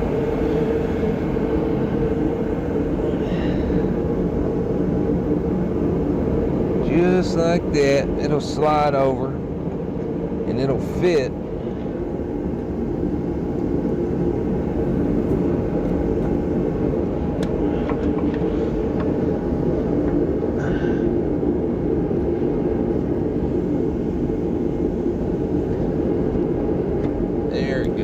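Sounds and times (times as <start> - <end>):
steady mechanical drone: 0.0 - 28.0.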